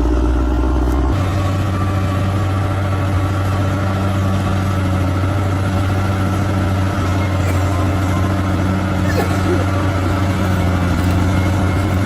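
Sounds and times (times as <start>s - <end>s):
bulldozer diesel engine droning: 0.0s - 12.0s.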